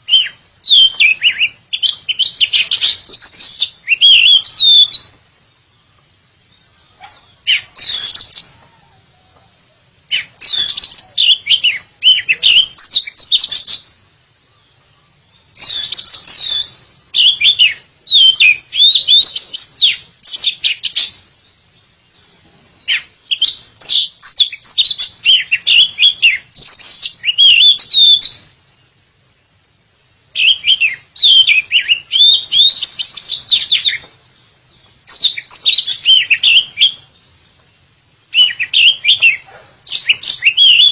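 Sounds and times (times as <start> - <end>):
bird whistling song: 0.0 - 28.9, 30.3 - 37.6, 38.3 - 40.9.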